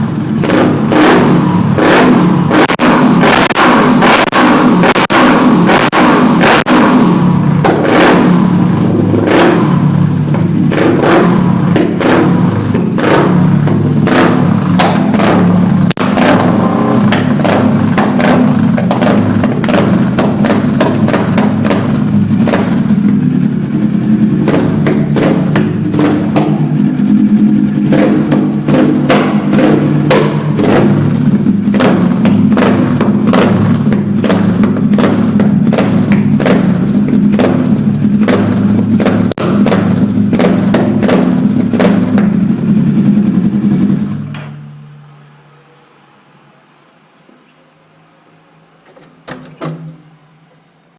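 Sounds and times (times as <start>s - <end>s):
motorcycle engine running: 0.0s - 45.8s.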